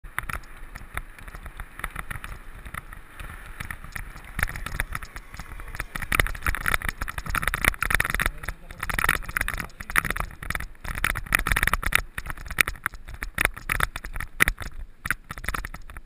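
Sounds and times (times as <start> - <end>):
bike knocks and rattles: 0.1 - 16.0.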